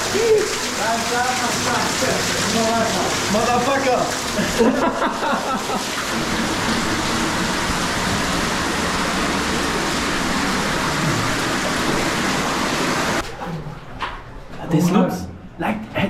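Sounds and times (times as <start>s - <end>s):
flowing water rushing: 0.0s - 13.2s.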